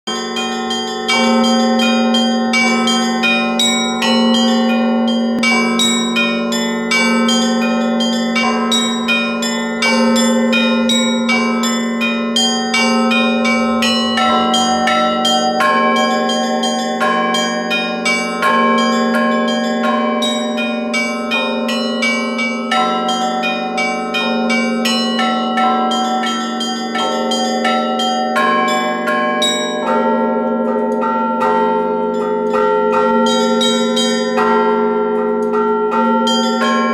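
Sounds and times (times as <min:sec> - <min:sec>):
deep church bells: 0:00.1 - 0:36.9
small church bells ringing rapidly: 0:00.1 - 0:36.9.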